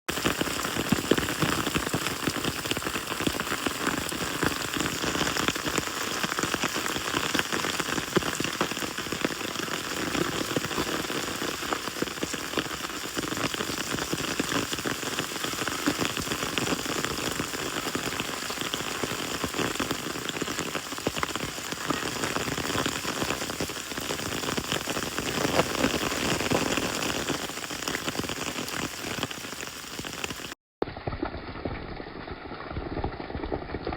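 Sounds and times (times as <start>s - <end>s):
heavy rain and hail on grass roof: 0.1s - 31.2s.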